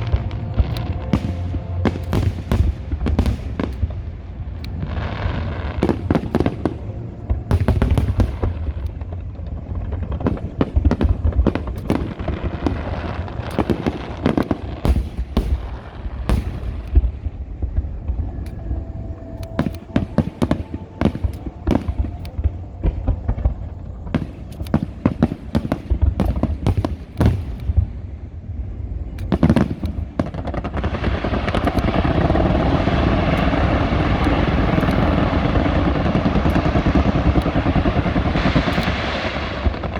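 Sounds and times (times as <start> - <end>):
fireworks bangs and cracks: 0.0 - 18.2, 19.4 - 28.0, 29.2 - 39.9.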